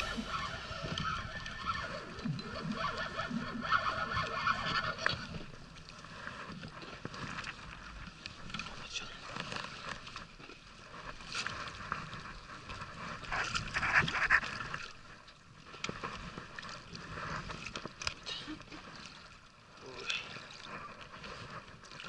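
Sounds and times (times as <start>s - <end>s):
water lapping against boat: 0.0s - 22.0s.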